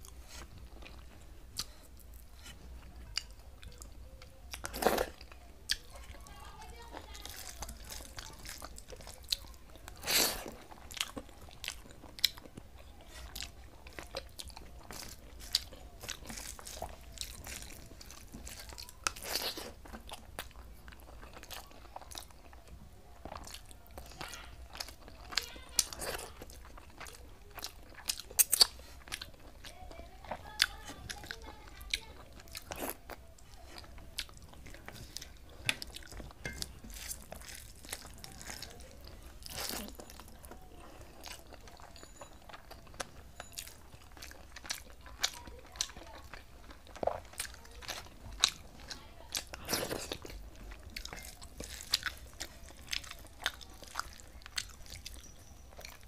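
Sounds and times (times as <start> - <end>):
moist chewing and mouth smacks: 0.0 - 6.2, 7.2 - 56.0.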